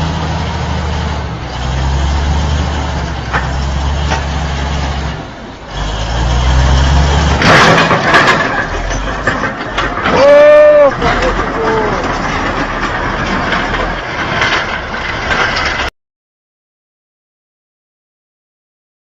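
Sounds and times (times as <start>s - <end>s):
heavy vehicle engine humming: 0.0s - 15.9s.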